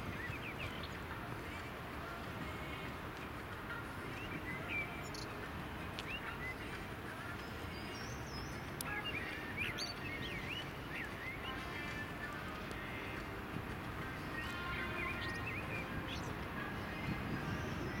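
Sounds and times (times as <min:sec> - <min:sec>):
birds chirping: 0:00.0 - 0:18.0
outdoor background noise: 0:00.0 - 0:18.0.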